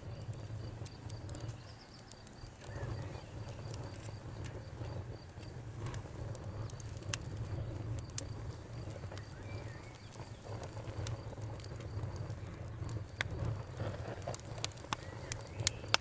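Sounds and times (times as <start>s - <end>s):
cricket chirping: 0.0s - 13.8s
campfire crackling: 0.0s - 16.0s.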